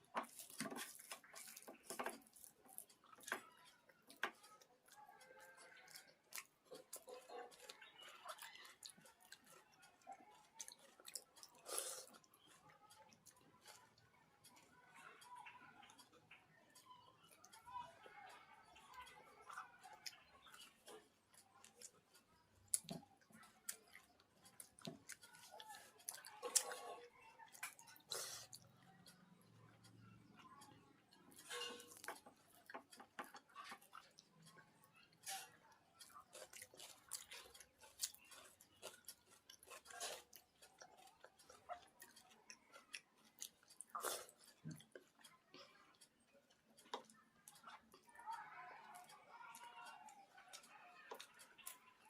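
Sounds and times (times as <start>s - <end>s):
wet chewing and lip smacking: 0.0s - 52.0s.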